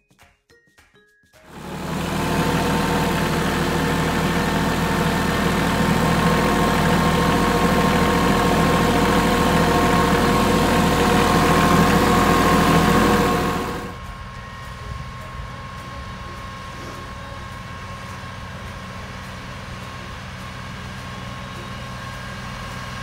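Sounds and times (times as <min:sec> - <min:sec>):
tractor engine running: 0:01.5 - 0:23.0.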